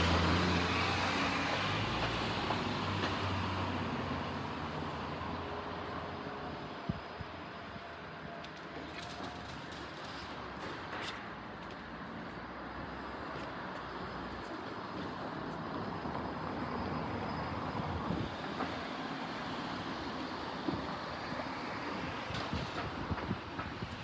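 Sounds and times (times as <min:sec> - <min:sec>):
electric train rumbling past: 0:00.0 - 0:24.0.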